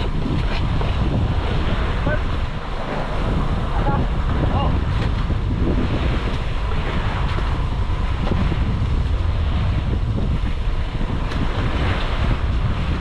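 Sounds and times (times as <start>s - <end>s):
water washing against boat: 0.0s - 13.0s
wind rumbling on microphone: 0.0s - 13.0s.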